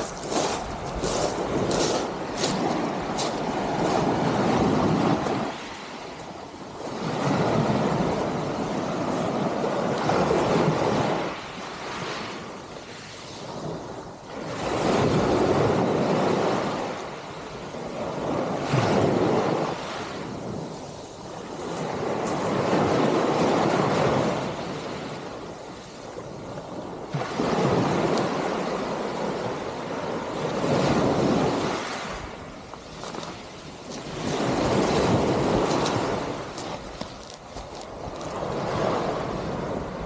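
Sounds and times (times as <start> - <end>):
waves washing onto shore: 0.0 - 40.0
wind rumbling on microphone: 0.0 - 40.0.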